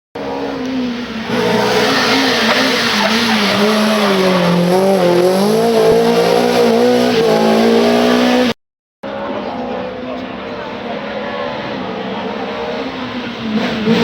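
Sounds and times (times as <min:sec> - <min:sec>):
car engine revving hard: 0:00.2 - 0:08.6, 0:09.5 - 0:14.0.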